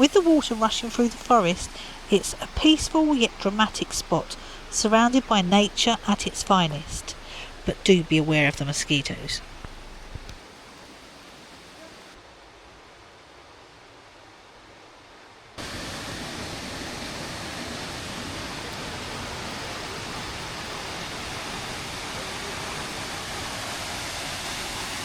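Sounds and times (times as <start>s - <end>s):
waterfall rushing: 0.0s - 12.2s, 15.6s - 25.0s.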